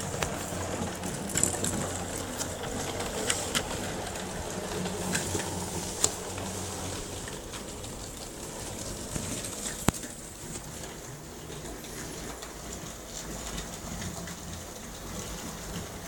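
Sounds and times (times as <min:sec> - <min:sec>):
sharp clicks from train: 0:00.0 - 0:16.0
toy train motor humming: 0:00.0 - 0:16.0.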